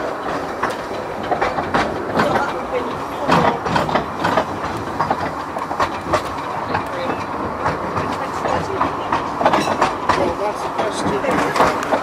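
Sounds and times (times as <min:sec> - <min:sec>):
train running rumble: 0:00.0 - 0:12.0
wheels clicking over track: 0:00.0 - 0:12.0.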